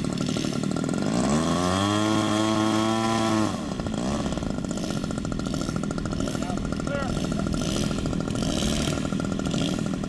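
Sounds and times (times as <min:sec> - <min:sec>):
engine running: 0:00.0 - 0:10.0
model airplane engine revving: 0:00.0 - 0:10.0.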